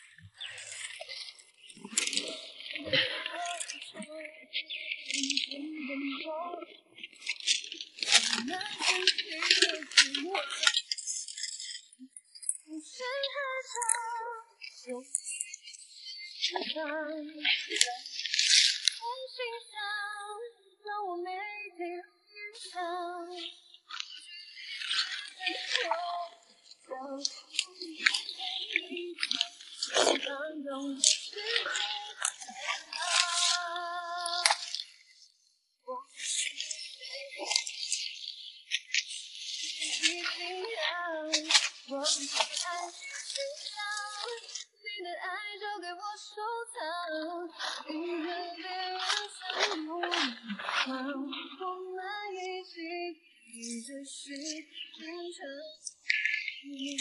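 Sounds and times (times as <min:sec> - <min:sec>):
woman singing: 0:01.9 - 0:07.1, 0:08.0 - 0:11.0, 0:12.4 - 0:15.4, 0:16.4 - 0:34.9, 0:35.9 - 0:37.8, 0:39.8 - 0:55.9, 0:56.6 - 0:57.0.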